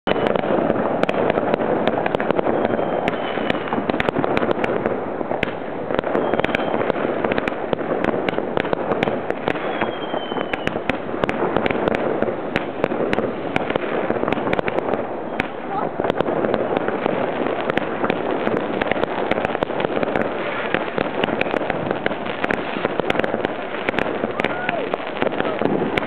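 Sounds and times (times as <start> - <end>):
fireworks crackling pops: 0.0 - 26.0
fireworks hissing sparks: 0.0 - 26.0.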